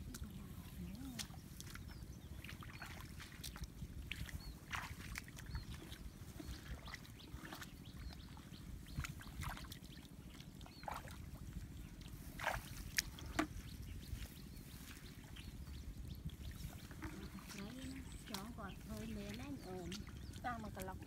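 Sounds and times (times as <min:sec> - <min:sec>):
feet squelching through water and mud: 0:00.0 - 0:21.0
steady low rumble: 0:00.0 - 0:21.0.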